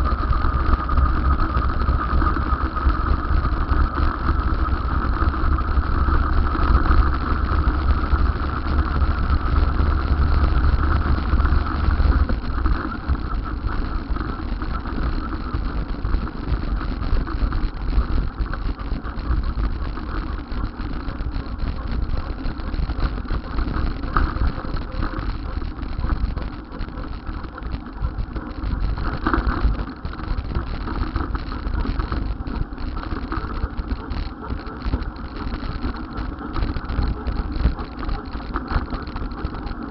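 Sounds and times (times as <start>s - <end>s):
heavy low rumble: 0.0s - 39.9s
vehicle and road noise: 0.0s - 39.9s.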